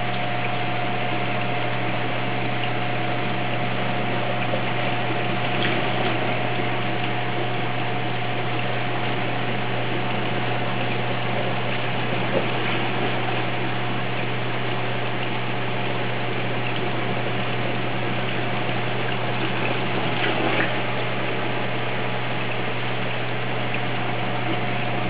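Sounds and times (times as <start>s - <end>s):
circulating water rushing: 0.0s - 25.0s
low pump motor hum: 0.0s - 25.0s.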